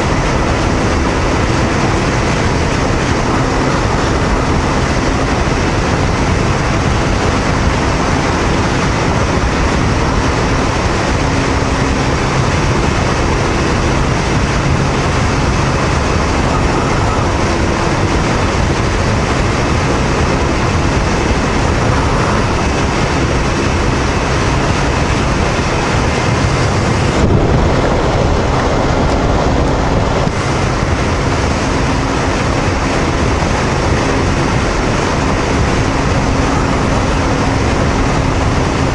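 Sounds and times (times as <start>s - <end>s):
motorcycle engine cruising: 0.0s - 38.9s
wind rush over microphone: 0.0s - 38.9s.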